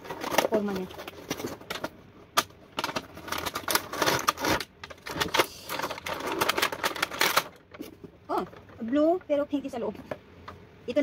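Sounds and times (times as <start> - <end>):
toy box clicks and rattles: 0.0 - 9.4.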